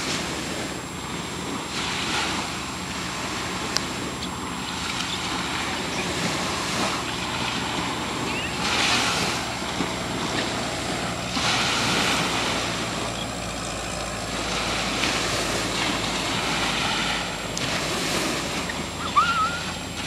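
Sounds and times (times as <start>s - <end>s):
ocean waves washing: 0.0s - 20.0s
steady low hum: 0.0s - 20.0s
wind buffeting microphone: 0.0s - 20.0s.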